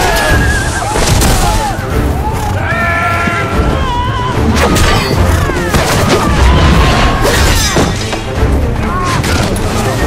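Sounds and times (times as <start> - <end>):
battle music with booming hits: 0.0 - 2.6, 3.4 - 10.0.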